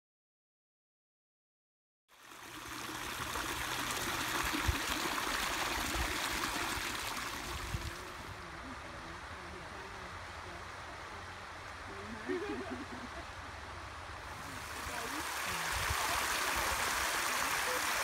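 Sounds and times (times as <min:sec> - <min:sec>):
water streaming over terraces: 0:02.1 - 0:18.0.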